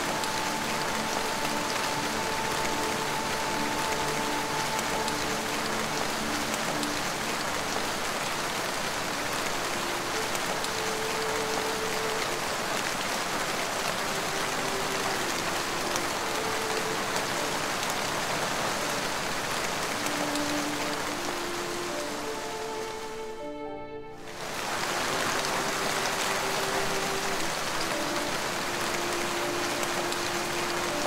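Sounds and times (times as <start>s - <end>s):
rain falling: 0.0s - 31.0s
soft ambient music: 0.0s - 31.0s.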